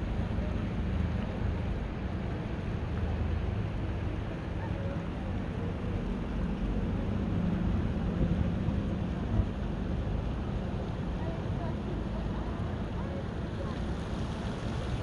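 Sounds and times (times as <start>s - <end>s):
low rumble of town square: 0.0s - 15.0s.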